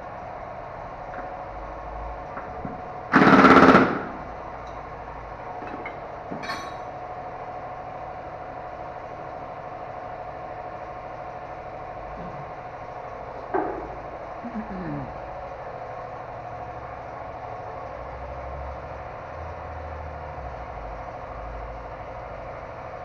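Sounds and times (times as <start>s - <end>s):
engine idling hum: 0.0s - 23.0s.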